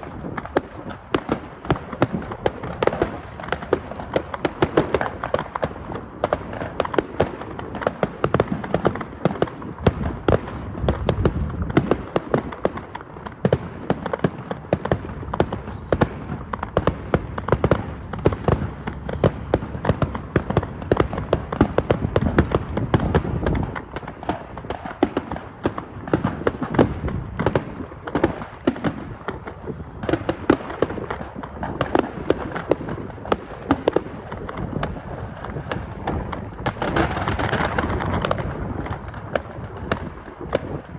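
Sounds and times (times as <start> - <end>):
fireworks bursting and crackling: 0.0 - 40.9
heavy low firework booms: 0.0 - 40.9.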